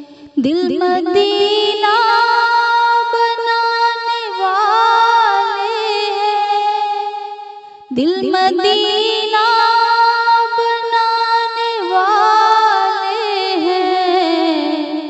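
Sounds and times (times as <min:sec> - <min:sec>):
person singing in high voice: 0:00.0 - 0:07.2, 0:07.9 - 0:15.0.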